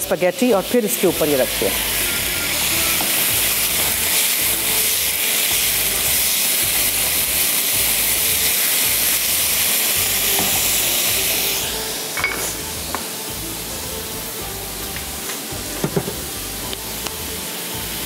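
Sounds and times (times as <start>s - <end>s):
meat sizzling in hot oil: 0.0s - 18.0s.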